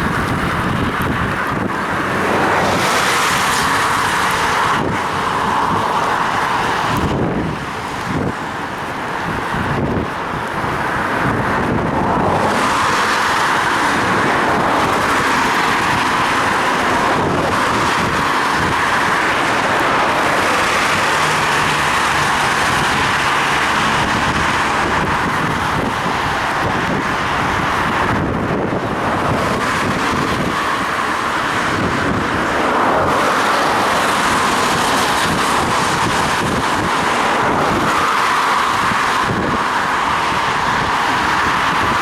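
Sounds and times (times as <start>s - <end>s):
low engine hum: 0.0s - 42.0s
motor vehicles running: 0.0s - 42.0s
wind on microphone: 0.0s - 42.0s.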